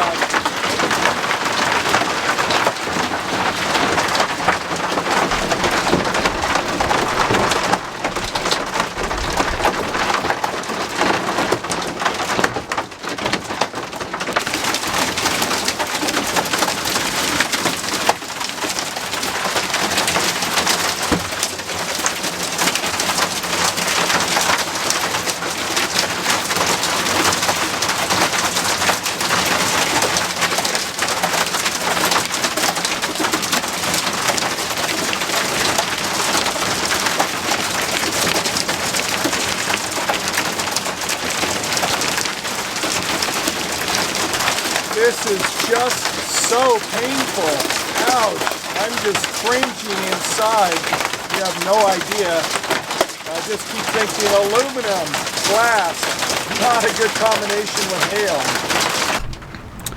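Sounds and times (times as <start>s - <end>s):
hail clattering on hard surfaces: 0.0s - 59.9s.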